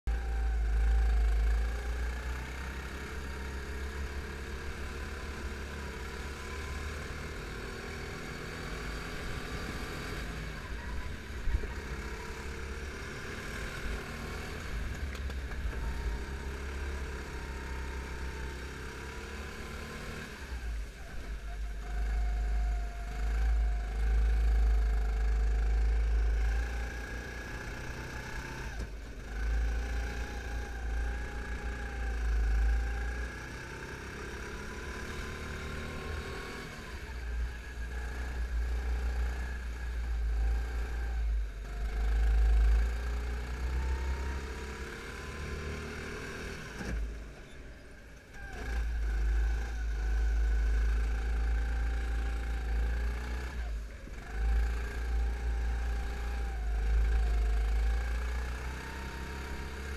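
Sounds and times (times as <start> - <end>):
go-kart engine revving: 0.1 - 59.9.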